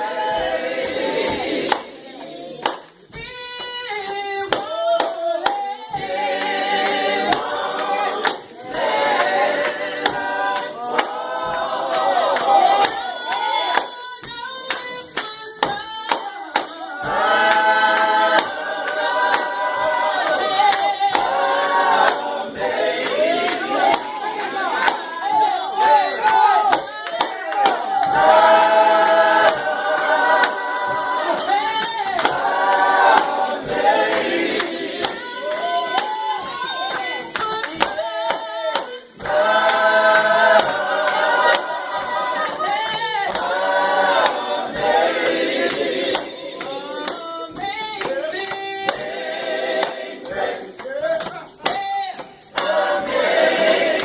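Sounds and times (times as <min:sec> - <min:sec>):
gospel vocal group singing: 0:00.0 - 0:54.0
tambourine shaken and struck: 0:00.0 - 0:54.0.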